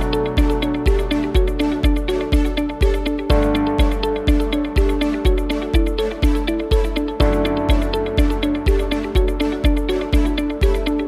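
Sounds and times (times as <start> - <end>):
electronic kick drum beat: 0.0 - 11.0
plucked melodic notes: 0.0 - 11.0.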